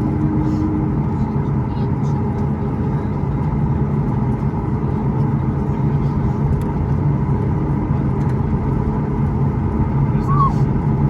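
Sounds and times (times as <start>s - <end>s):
airliner engine rumble: 0.0s - 11.0s
constant low hum: 0.0s - 11.0s.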